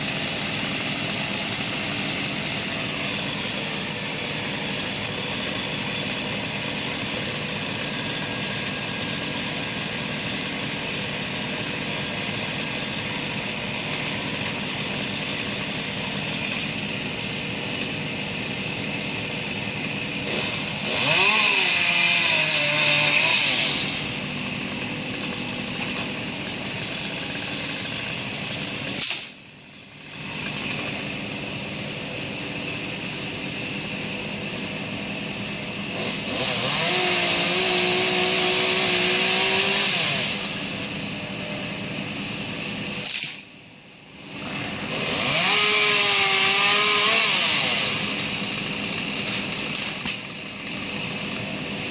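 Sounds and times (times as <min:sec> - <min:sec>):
chainsaw revving and cutting: 0:00.0 - 0:51.9
small engine running: 0:00.0 - 0:51.9.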